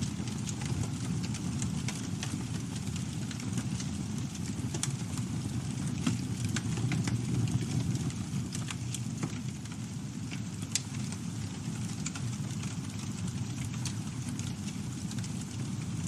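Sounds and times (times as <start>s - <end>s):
campfire rumble: 0.0s - 16.0s
fire crackles and pops: 0.0s - 16.0s.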